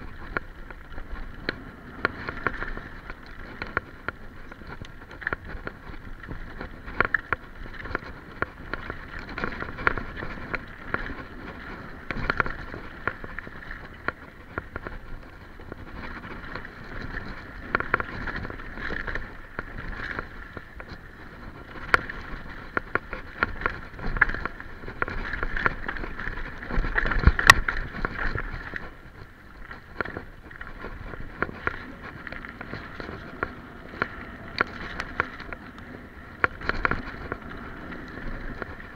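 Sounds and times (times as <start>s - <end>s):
tyre noise on dirt trail: 0.0s - 38.9s.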